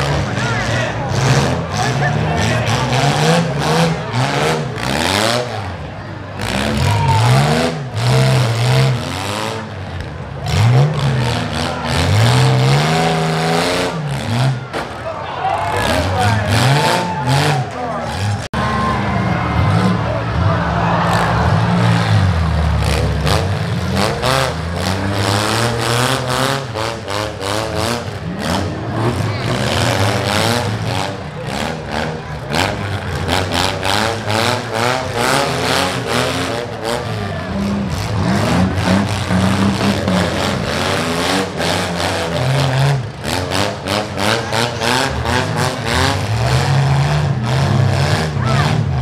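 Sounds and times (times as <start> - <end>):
car engines revving: 0.0 - 49.0.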